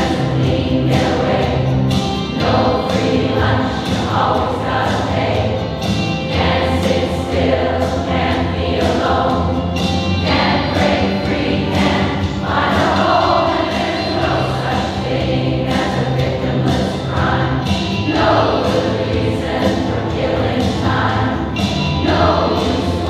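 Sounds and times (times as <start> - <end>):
women's choir singing in harmony: 0.0 - 23.0.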